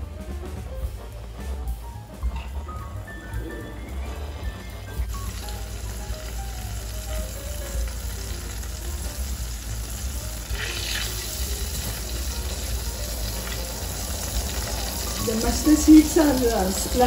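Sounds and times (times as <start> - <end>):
loud crackling: 0.0 - 17.0
seeds sizzling in hot oil: 0.5 - 17.0.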